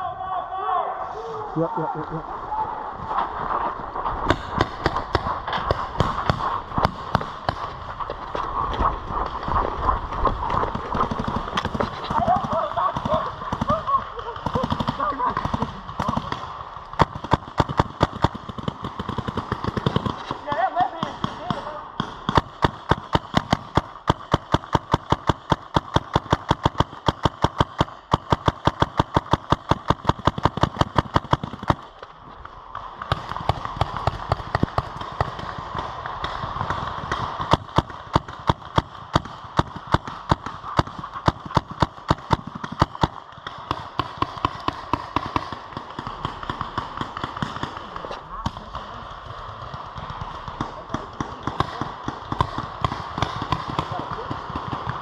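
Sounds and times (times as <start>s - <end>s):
paintball marker rapid shots: 4.2s - 55.0s.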